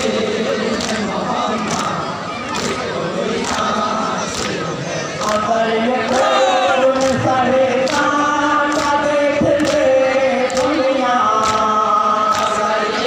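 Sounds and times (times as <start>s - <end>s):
chant-like singing: 0.0s - 13.0s
crowd noise: 0.0s - 13.0s.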